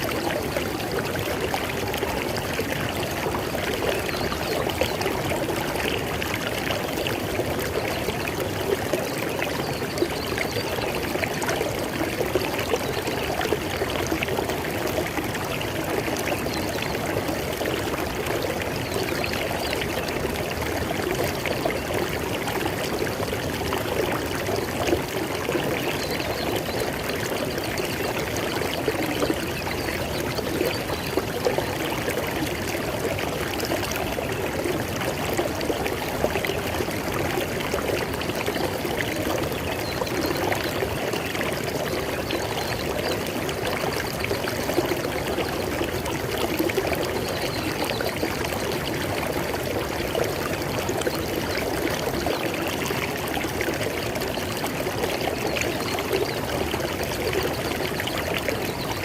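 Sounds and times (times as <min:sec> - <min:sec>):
river water over rocks: 0:00.0 - 0:59.0.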